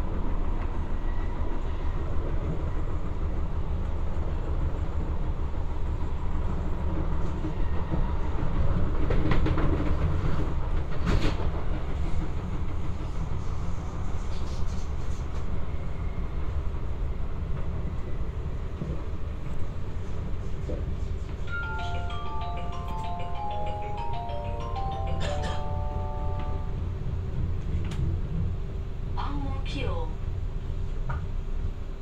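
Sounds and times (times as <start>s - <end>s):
train wheels rumbling on rail: 0.0s - 21.7s, 26.9s - 32.0s.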